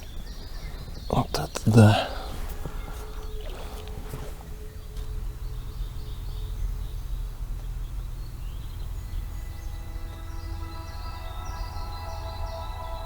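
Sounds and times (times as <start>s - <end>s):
background music: 0.0s - 13.0s
birds chirping: 0.0s - 13.0s
steady low rumble: 0.0s - 13.0s.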